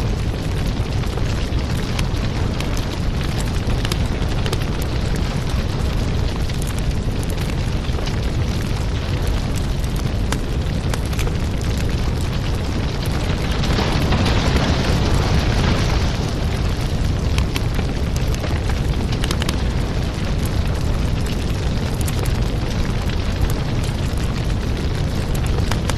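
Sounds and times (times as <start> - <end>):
low rumble: 0.0 - 25.9
wood fire crackling and popping: 0.0 - 25.9.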